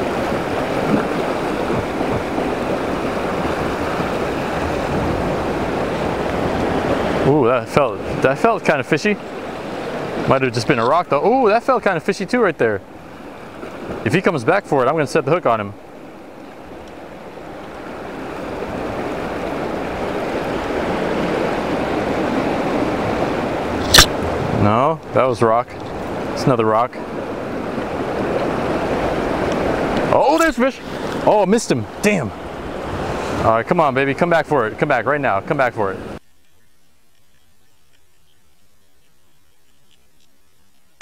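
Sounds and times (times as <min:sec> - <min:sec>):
ocean surf washing against rocks: 0:00.0 - 0:36.2.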